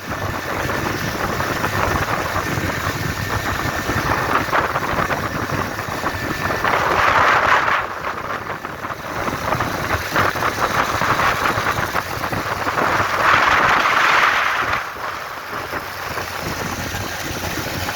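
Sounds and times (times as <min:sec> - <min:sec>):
motorbike engine running: 0:00.0 - 0:17.9
wind buffeting microphone: 0:00.0 - 0:17.9.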